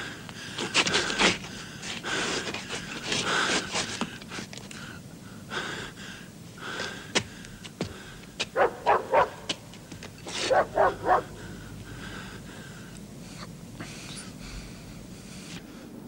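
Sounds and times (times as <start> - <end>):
man breathing hard: 0.0 - 8.6, 9.9 - 16.0.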